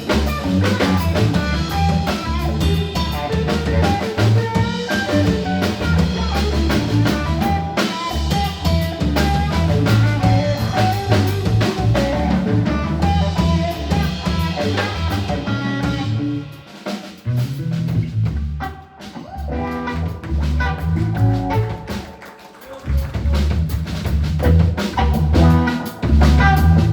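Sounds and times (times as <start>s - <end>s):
bass line: 0.0s - 16.6s, 17.2s - 22.0s, 22.8s - 26.9s
drum kit: 0.0s - 26.9s
guitar: 0.0s - 26.9s.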